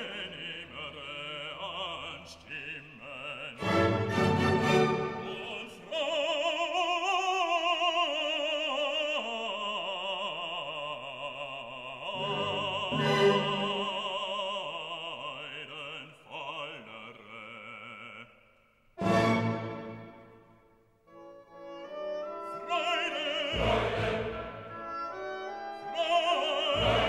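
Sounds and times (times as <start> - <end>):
operatic voice singing: 0.0 - 18.4, 22.2 - 27.0.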